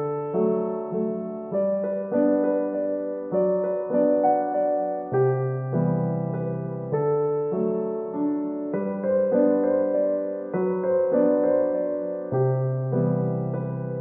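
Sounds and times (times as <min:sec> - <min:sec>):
piano chords over bass line: 0:00.0 - 0:14.0.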